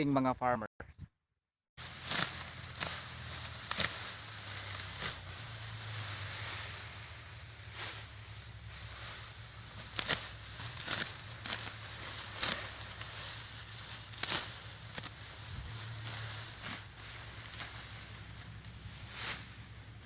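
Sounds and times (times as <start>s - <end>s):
dry straw rustling: 1.8s - 20.0s
rice stalks cut by hand: 1.8s - 20.0s.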